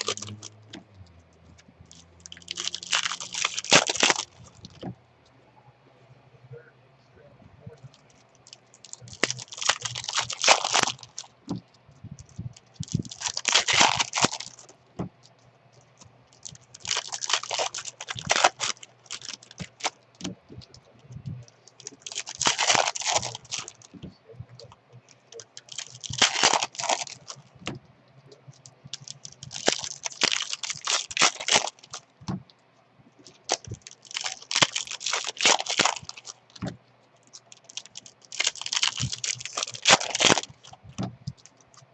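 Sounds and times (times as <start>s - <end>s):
card wrappers tearing and crinkling: 0.0s - 4.9s, 7.9s - 15.3s, 16.0s - 20.8s, 21.4s - 24.1s, 25.0s - 27.8s, 28.6s - 32.4s, 33.2s - 41.9s.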